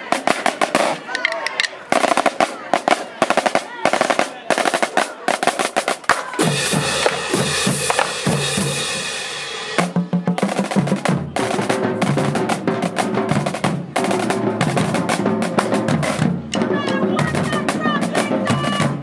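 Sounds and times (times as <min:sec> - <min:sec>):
drumline playing snare and bass drums: 0:00.0 - 0:19.0.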